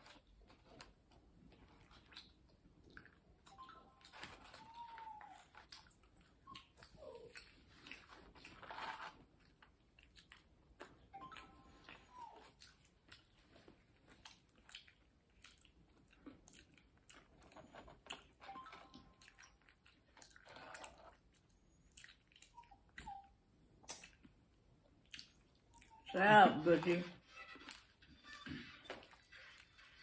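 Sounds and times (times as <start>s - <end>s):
chewing and biting food: 1.5s - 23.2s, 23.8s - 26.1s.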